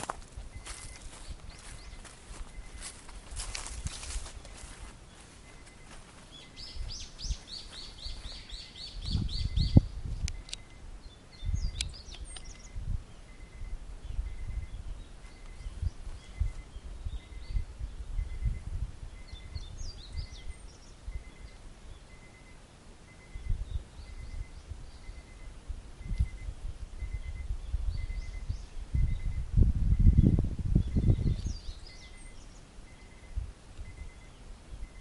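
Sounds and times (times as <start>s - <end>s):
bird chirps: 0.0s - 35.0s
songbird singing high notes: 0.5s - 35.0s.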